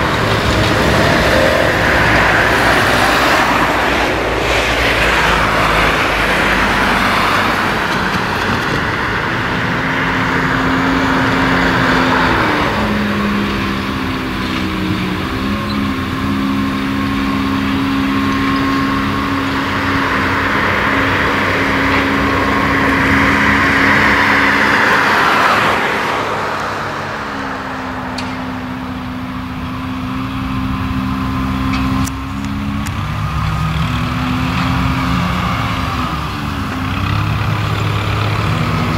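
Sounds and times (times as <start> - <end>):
flail mower rotor whirring: 0.0 - 38.9
tractor engine running: 0.0 - 38.9.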